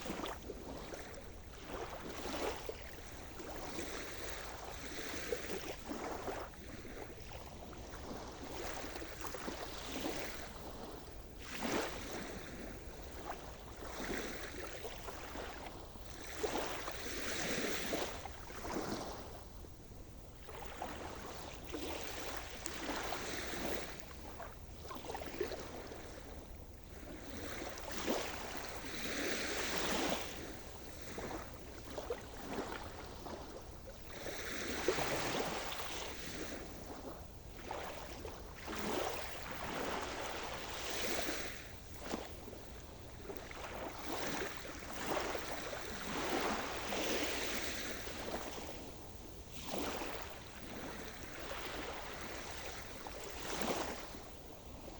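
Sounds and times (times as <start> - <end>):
waves breaking on shore: 0.0 - 54.9.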